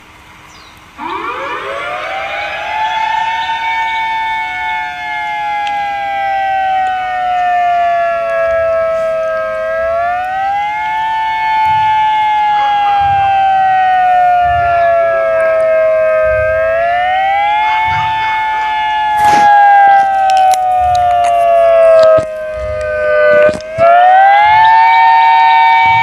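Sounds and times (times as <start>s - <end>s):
warning siren wailing: 0.8s - 26.0s.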